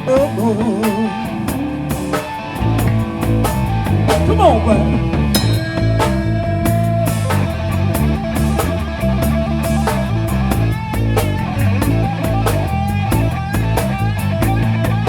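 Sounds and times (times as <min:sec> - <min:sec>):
bass: 0:00.0 - 0:15.0
drum kit beat: 0:00.0 - 0:15.0
electric guitar lead: 0:00.0 - 0:15.0.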